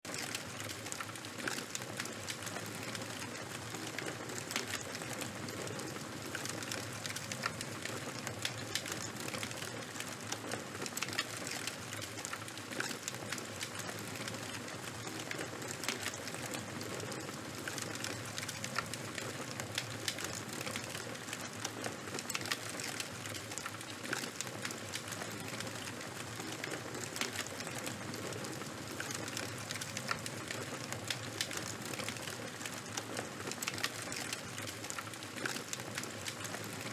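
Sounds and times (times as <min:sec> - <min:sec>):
campfire crackling and popping: 0:00.1 - 0:36.9.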